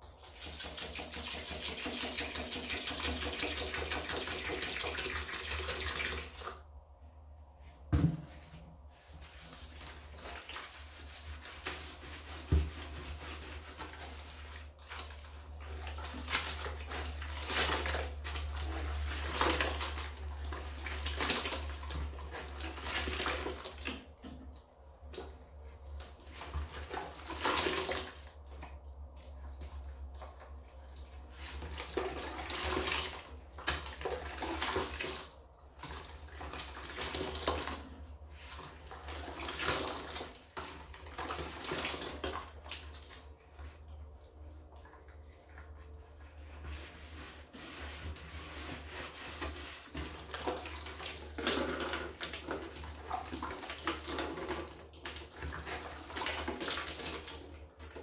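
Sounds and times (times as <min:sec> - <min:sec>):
scrubbing in soapy water: 0:07.5 - 0:24.1, 0:24.7 - 0:58.0.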